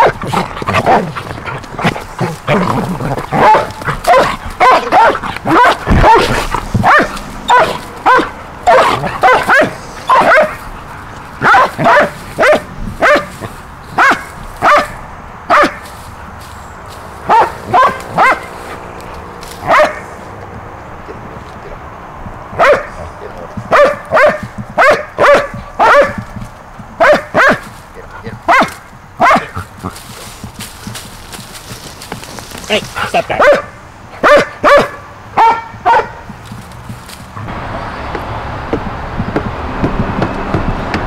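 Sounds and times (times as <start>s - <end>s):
dogs barking: 0.0s - 16.2s, 16.9s - 37.5s.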